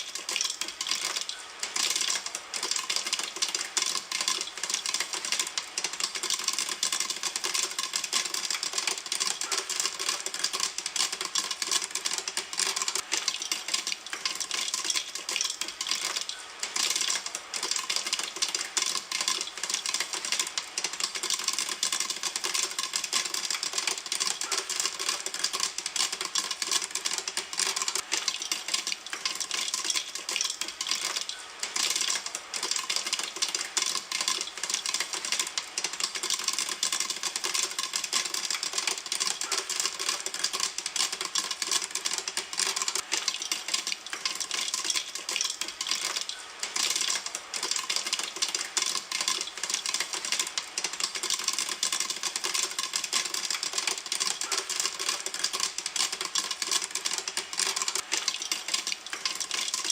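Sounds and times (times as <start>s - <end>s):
popcorn popping in a pan: 0.0s - 59.9s.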